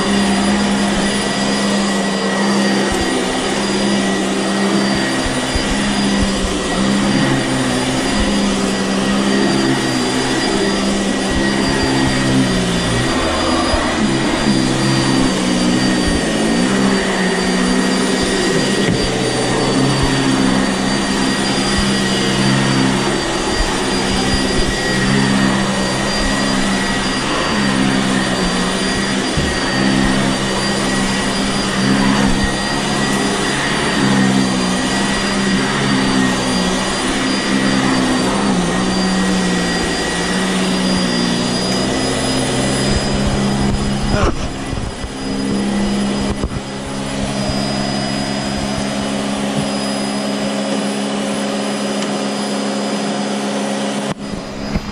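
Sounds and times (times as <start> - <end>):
upright vacuum cleaner running: 0.0 - 54.9.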